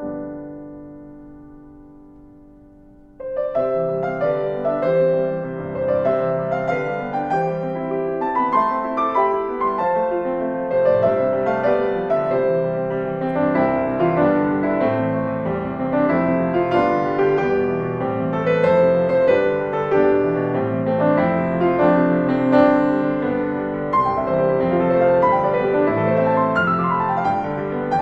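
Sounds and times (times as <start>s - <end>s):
solo piano melody: 0.0s - 28.0s.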